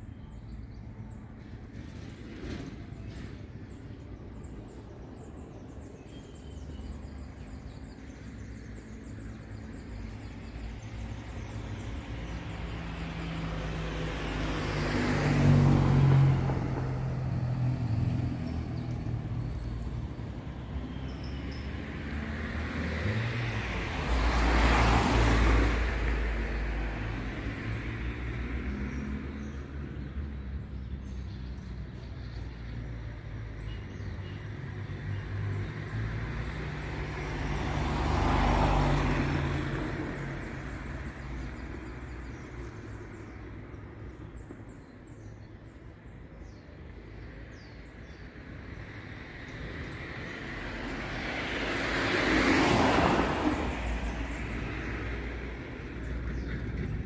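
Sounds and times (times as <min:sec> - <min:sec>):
traffic low rumble: 0:00.0 - 0:57.0
vehicles passing: 0:00.0 - 0:57.0.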